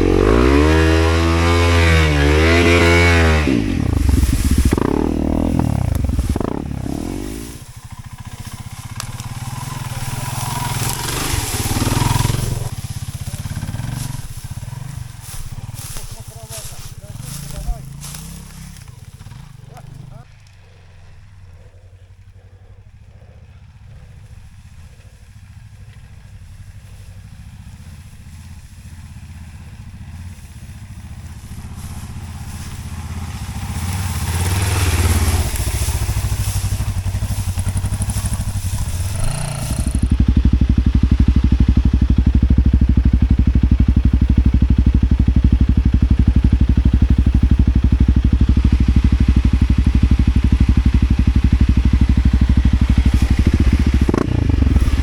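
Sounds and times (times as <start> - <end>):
off-road motorcycle engine: 0.0 - 55.0
steady low engine note: 0.0 - 55.0.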